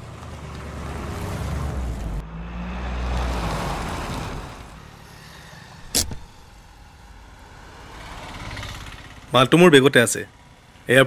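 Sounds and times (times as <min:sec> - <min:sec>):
car engine and road noise hum: 0:00.0 - 0:11.0.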